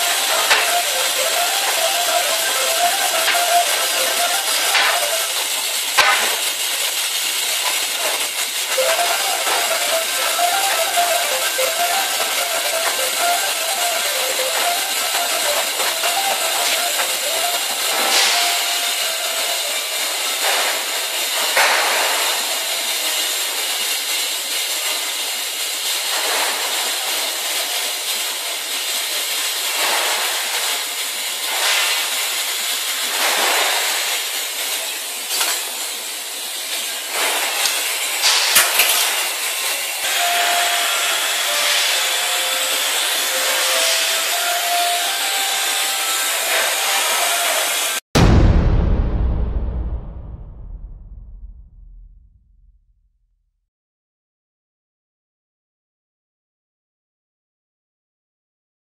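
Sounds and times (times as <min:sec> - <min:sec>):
welding arc hissing: 0:00.0 - 0:48.0.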